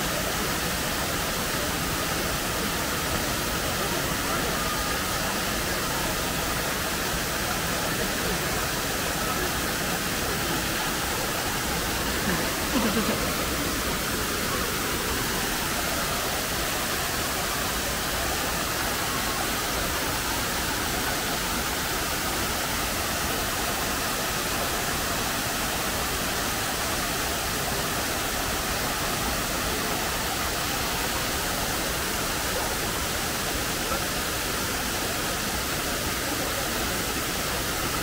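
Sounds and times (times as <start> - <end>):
waterfall rushing over rock: 0.0 - 38.0.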